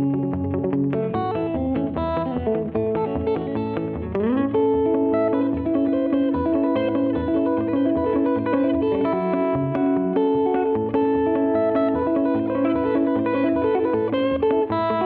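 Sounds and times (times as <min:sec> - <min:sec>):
bass line: 0:00.0 - 0:15.0
lead guitar long notes: 0:00.0 - 0:15.0.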